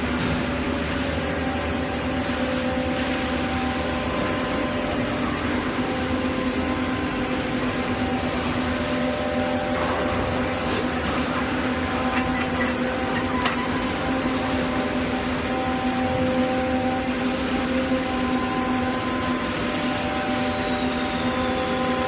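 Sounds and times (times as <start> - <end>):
factory machinery humming: 0.0 - 22.0.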